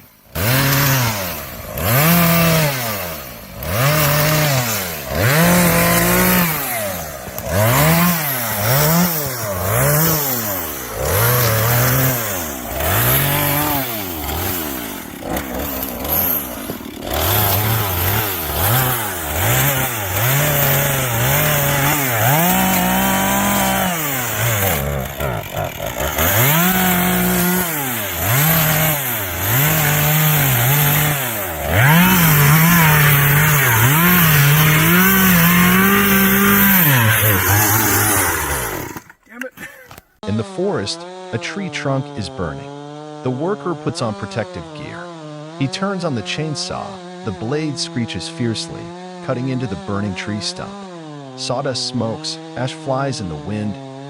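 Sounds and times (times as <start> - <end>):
chainsaw cutting tree trunk: 0.0 - 54.0.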